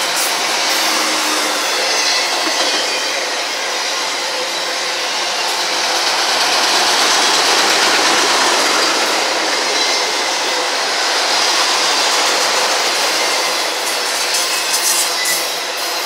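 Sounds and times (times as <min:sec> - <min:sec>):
steel wheels rushing on rails: 0:00.0 - 0:16.0.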